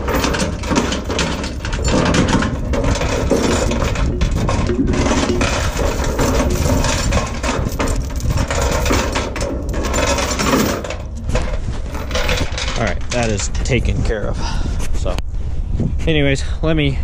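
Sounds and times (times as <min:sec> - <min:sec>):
steel chain clinking and rattling: 0:00.0 - 0:13.8.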